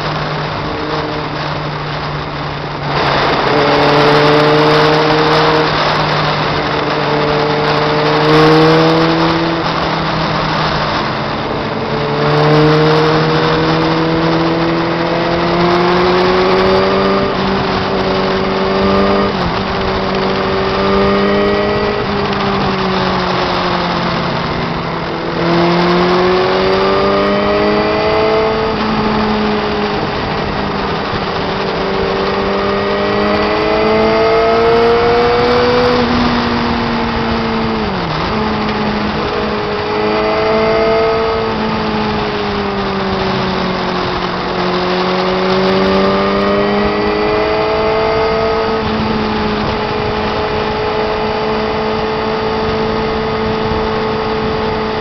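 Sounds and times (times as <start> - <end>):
motorcycle engine at road speed: 0.0 - 55.0
wind rush on microphone: 0.0 - 55.0.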